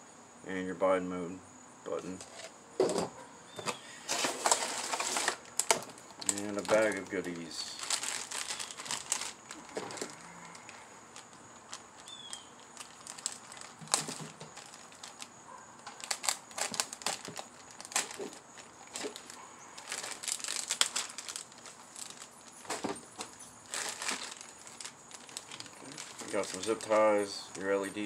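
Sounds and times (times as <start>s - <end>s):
plastic bag crinkling: 3.6s - 28.0s.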